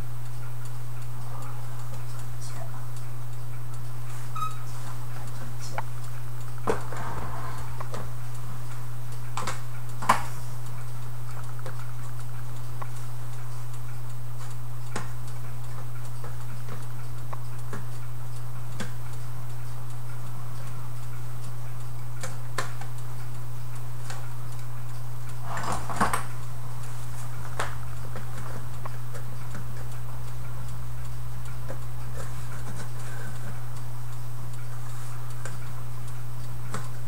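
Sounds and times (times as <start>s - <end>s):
low steady hum: 0.0s - 37.0s
light clicks and taps on clock: 0.2s - 37.0s.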